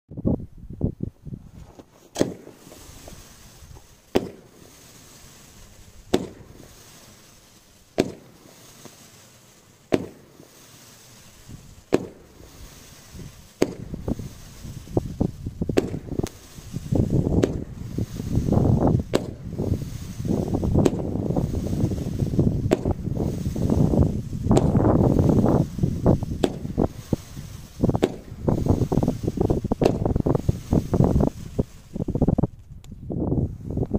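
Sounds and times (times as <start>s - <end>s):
firework pops and crackle: 1.5s - 33.1s
firework launch reports: 2.1s - 32.5s.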